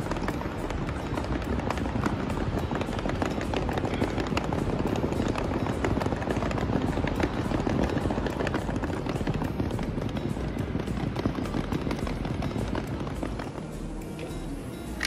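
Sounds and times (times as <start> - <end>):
footsteps on stone paving: 0.0 - 14.4
suitcase wheels rattling: 0.0 - 14.4
outdoor background noise: 0.0 - 15.0.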